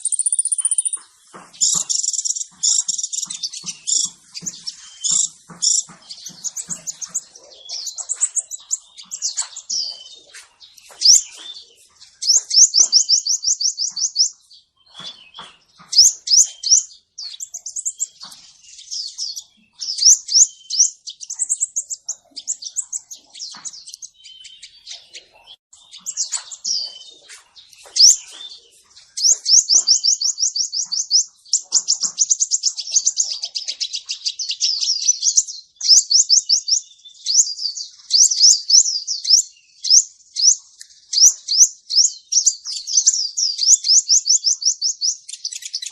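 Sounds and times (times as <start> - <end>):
bird chirping and trilling: 0.0 - 45.9.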